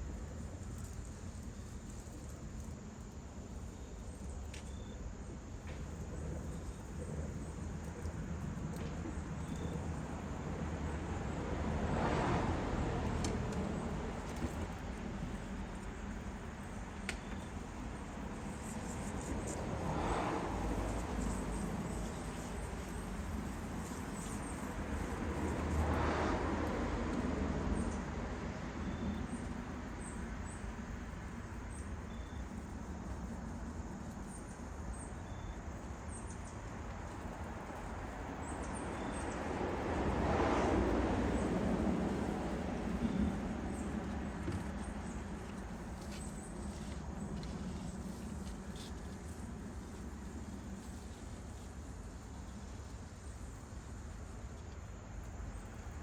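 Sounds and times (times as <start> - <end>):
vehicles passing on road: 5.1 - 56.0.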